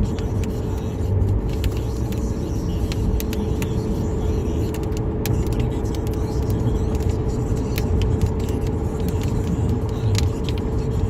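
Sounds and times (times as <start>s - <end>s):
car road and engine noise: 0.0s - 11.0s
raindrops ticking on windshield: 0.0s - 11.0s.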